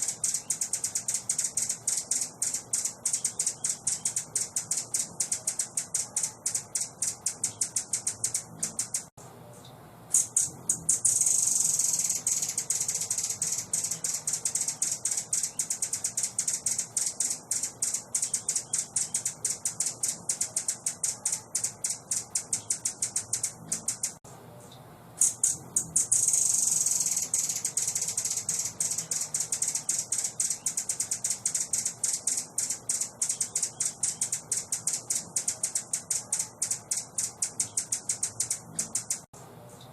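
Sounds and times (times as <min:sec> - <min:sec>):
bird ticking notes: 0:00.0 - 0:09.1, 0:10.2 - 0:24.2, 0:25.2 - 0:39.3
buzzy bird trill: 0:00.0 - 0:09.1, 0:10.1 - 0:24.2, 0:25.2 - 0:39.3.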